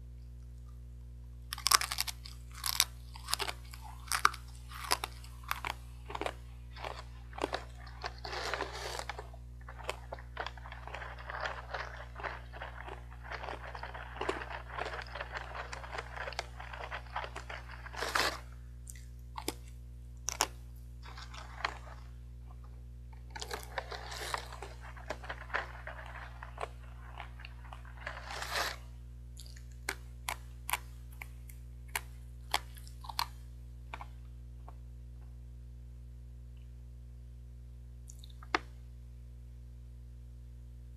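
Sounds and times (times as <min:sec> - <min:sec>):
low steady hum: 0:00.0 - 0:40.9
crunchy food being chewed: 0:01.5 - 0:34.8.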